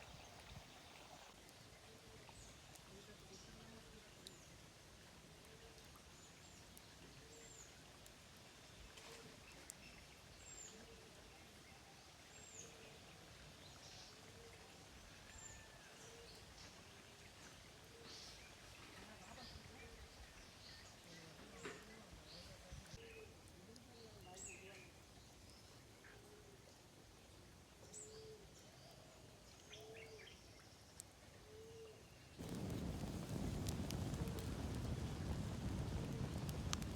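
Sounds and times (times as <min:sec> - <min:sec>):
soft steady hiss: 0:00.0 - 0:36.9.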